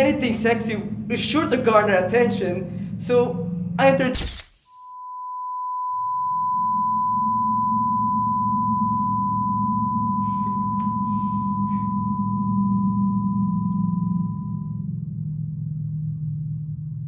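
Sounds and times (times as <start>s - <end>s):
low droning rumble: 0.0s - 4.3s, 6.4s - 17.0s
high-pitched ringing tone: 0.0s - 17.0s.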